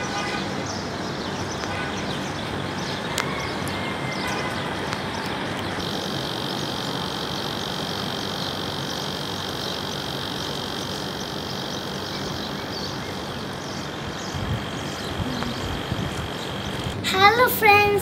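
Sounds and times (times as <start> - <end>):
distant traffic rush: 0.0 - 18.0.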